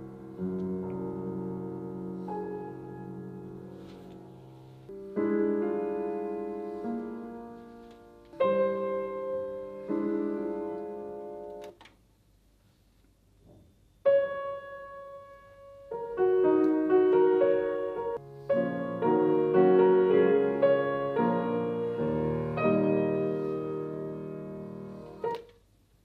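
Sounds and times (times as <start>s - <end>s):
solo piano chords: 0.0s - 11.8s, 13.8s - 25.8s.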